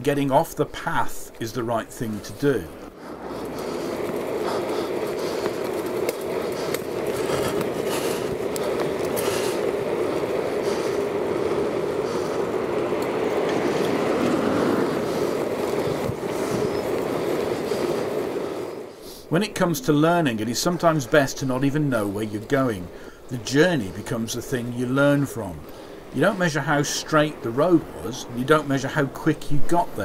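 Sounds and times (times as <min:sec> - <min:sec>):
tyre and wind noise: 0:00.0 - 0:30.0.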